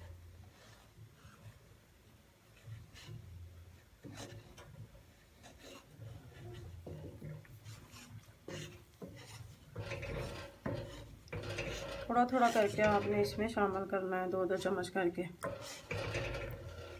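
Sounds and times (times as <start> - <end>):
wooden spatula scraping a pan: 0.0 - 16.9.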